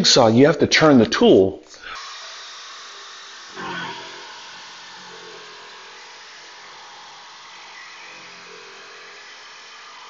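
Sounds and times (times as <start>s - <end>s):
jigsaw sawing wood: 1.8s - 10.0s.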